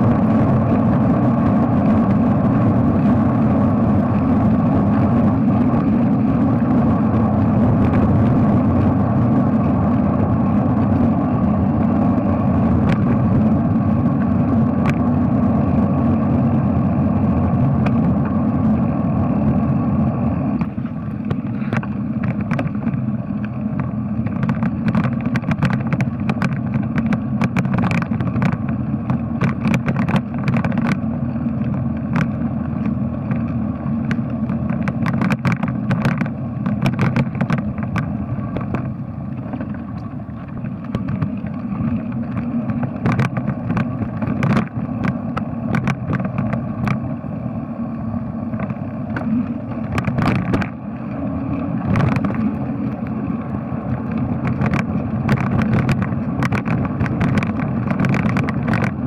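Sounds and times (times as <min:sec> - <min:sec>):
bicycle clicks and rattles: 0:00.0 - 0:59.0
bicycle tyres and wind rumble: 0:00.0 - 0:59.0.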